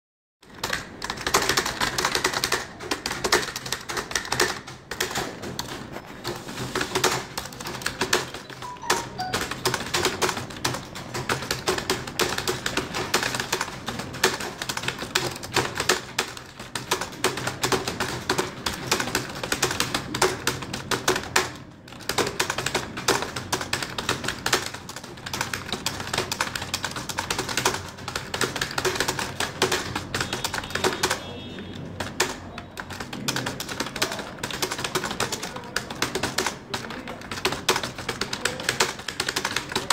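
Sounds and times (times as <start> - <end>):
fast typing on keyboard: 0.4 - 39.9.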